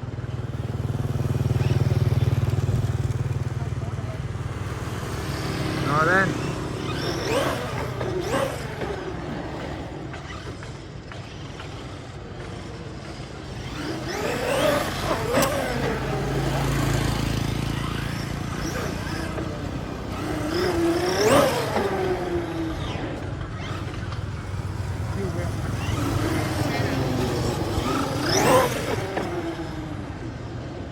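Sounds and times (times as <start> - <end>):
small petrol engine passing by: 0.0 - 30.9.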